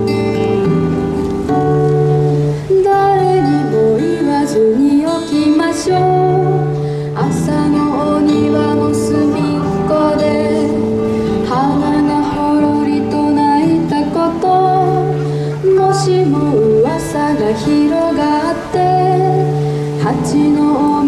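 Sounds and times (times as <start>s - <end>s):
plucked strings backing track: 0.0s - 21.0s
girl singing gentle melody: 2.5s - 21.0s.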